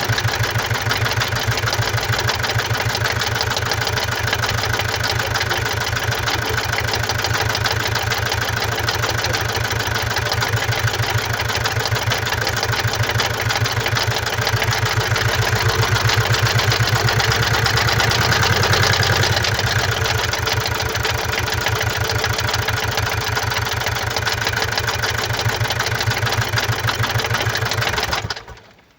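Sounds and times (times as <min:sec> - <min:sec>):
diesel engine running: 0:00.0 - 0:28.6.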